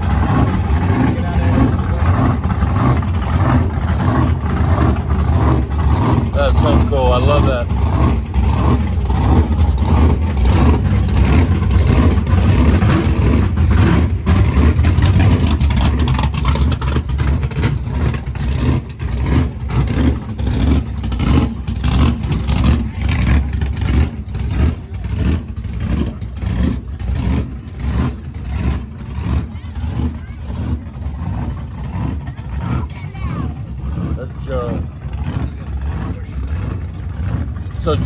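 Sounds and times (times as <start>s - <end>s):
race car engine with choppy exhaust: 0.0s - 38.0s.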